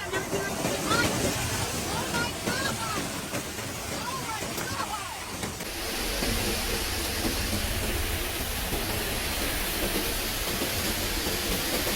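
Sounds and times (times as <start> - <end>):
heavy rain: 0.0 - 11.9.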